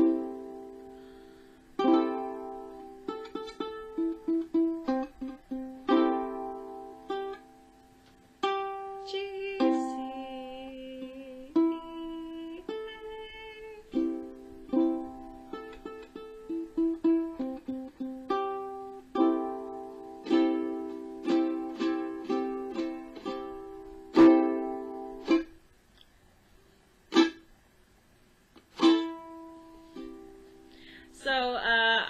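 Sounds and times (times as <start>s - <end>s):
ukulele strummed and picked: 0.0s - 25.6s, 27.1s - 27.5s, 28.6s - 31.6s.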